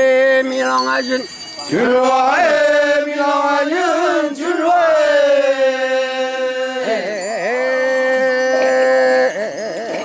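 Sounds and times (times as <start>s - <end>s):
men chanting together: 1.7s - 10.0s.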